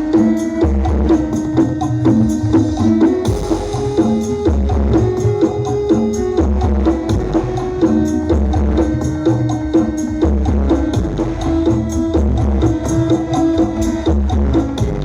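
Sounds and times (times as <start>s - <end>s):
loud dance music with heavy bass: 0.0s - 15.0s.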